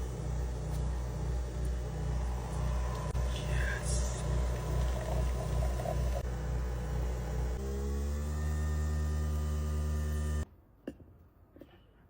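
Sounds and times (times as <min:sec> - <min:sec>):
coffee machine humming: 0:00.0 - 0:10.5.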